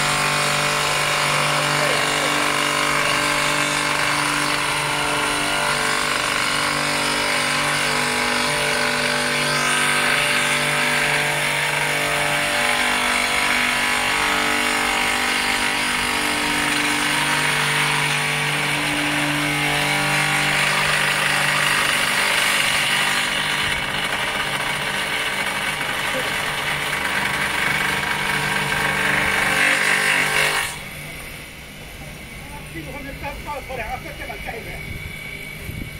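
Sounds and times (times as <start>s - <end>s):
electric motor hum: 0.0s - 35.9s.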